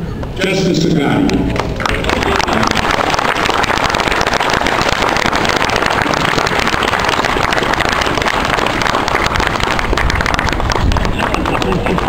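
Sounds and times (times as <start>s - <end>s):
crowd applauding: 1.3s - 12.0s.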